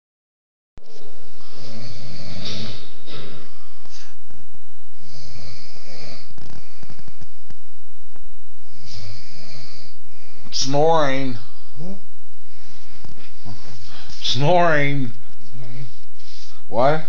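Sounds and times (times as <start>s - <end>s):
low rattling snore: 0.8s - 7.6s, 8.6s - 17.0s
breathy hissing: 0.9s - 4.2s, 4.9s - 7.2s, 8.6s - 16.9s.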